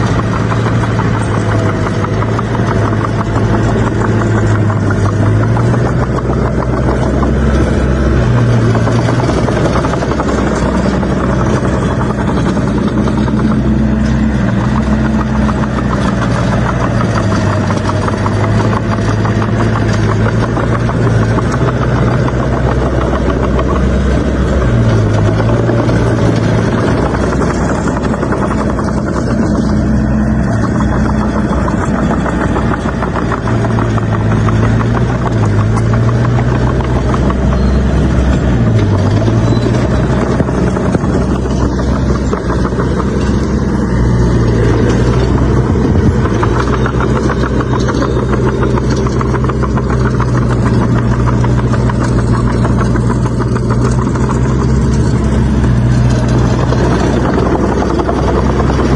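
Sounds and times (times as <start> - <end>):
bulldozer diesel engine working: 0.0 - 58.9.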